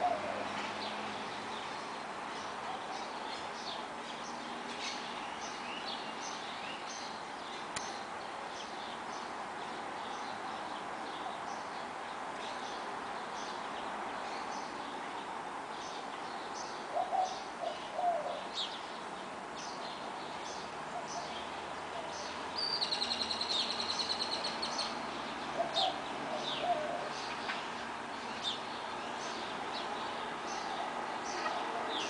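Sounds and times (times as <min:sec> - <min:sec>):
distant road traffic hum: 0:00.0 - 0:32.0
songbirds chirping: 0:00.0 - 0:32.0.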